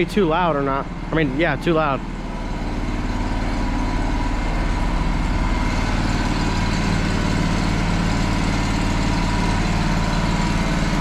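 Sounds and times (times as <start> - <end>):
welder engine running: 0.0 - 11.0.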